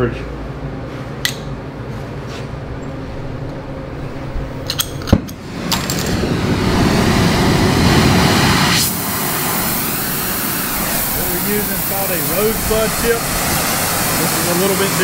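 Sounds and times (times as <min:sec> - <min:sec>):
torch flame rushing: 0:02.4 - 0:15.0.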